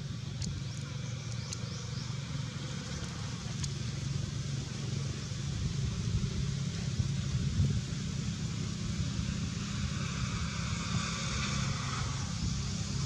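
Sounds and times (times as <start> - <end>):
low engine hum: 0.0 - 13.0
steady high hiss: 0.0 - 13.0.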